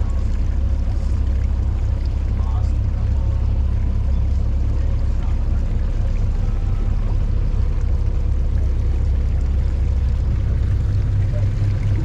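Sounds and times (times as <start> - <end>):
boat motor low rumble: 0.0 - 12.0.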